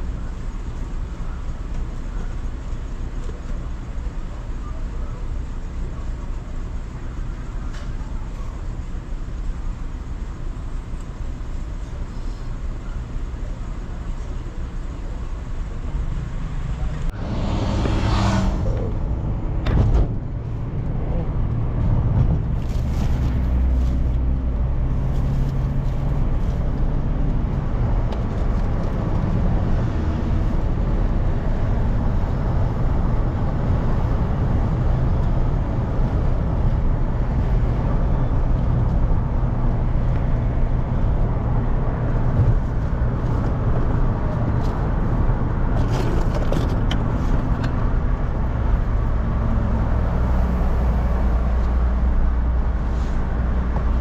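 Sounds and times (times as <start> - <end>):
car engine humming: 0.0 - 54.0
tyre and road noise: 0.0 - 54.0.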